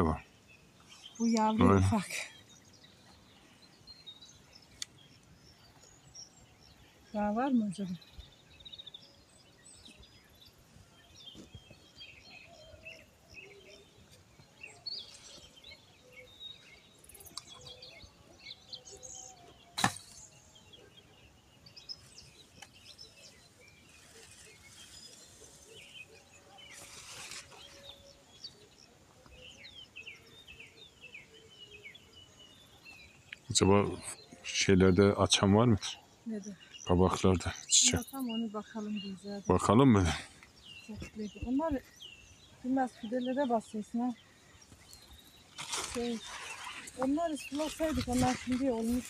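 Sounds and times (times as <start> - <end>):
birds chirping and trilling: 0.0 - 49.0.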